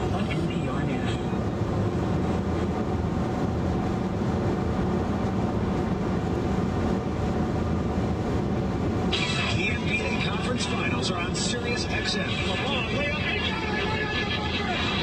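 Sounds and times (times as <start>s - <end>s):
car road and tyre noise: 0.0s - 15.0s.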